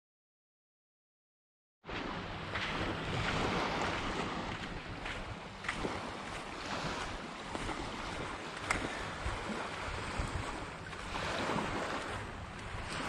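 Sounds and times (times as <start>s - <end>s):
small waves washing onto beach: 1.9s - 13.0s
wind buffeting microphone: 2.2s - 13.0s.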